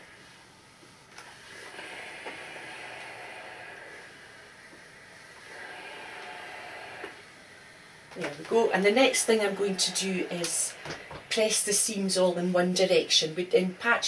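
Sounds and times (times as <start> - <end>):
steam iron hissing: 0.0 - 14.0.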